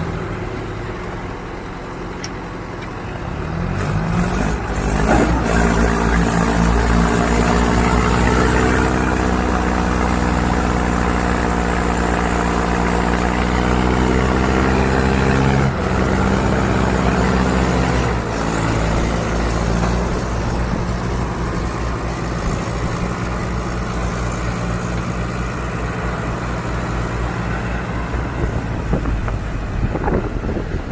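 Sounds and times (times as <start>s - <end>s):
tractor engine under load: 0.0s - 30.9s.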